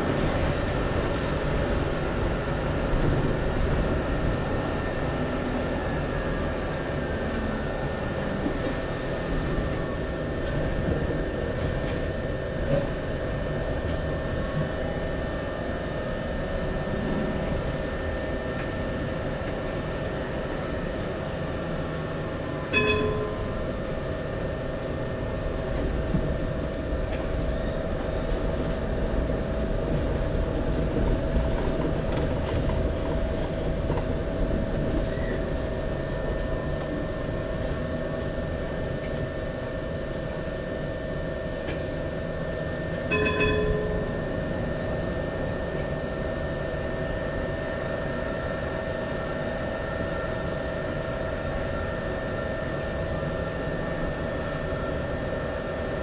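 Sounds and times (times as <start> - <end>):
constant hum: 0.0 - 56.0
tram wheels rumbling: 0.0 - 56.0.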